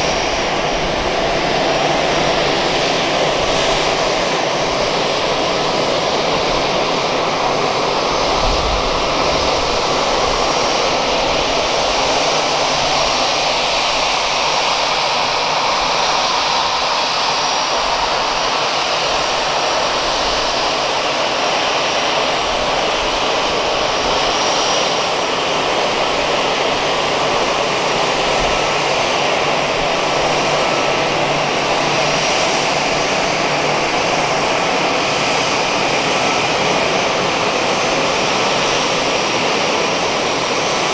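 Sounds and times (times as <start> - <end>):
jet engines running loudly: 0.0 - 40.9.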